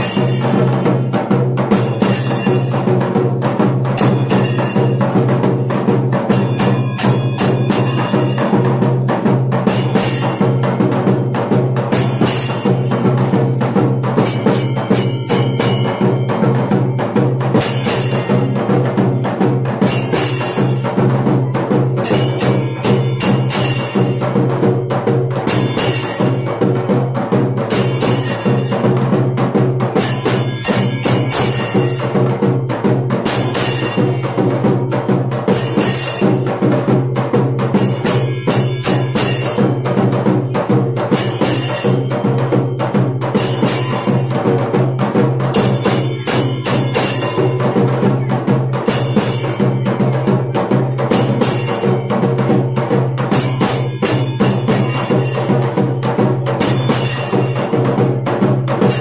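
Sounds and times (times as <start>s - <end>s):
barrel drums beaten with sticks: 0.0s - 59.0s
hand cymbals clashing: 0.0s - 59.0s.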